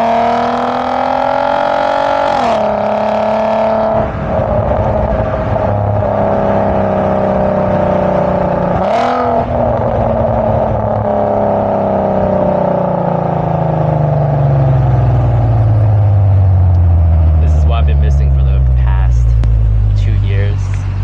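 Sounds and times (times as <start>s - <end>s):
car exhaust while driving: 0.0s - 21.0s.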